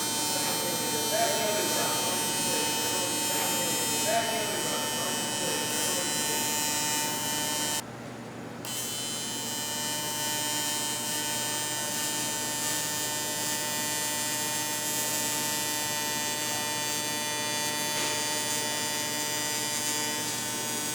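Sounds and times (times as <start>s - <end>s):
welding arc buzzing: 0.0s - 7.8s, 8.6s - 20.9s.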